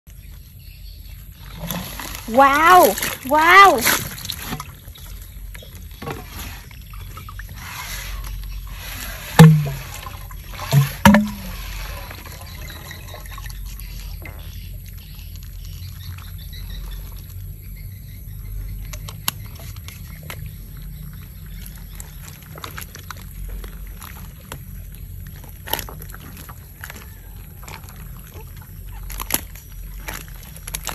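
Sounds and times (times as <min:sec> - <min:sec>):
wet slithering and squelching: 0:01.4 - 0:17.7, 0:18.8 - 0:30.9.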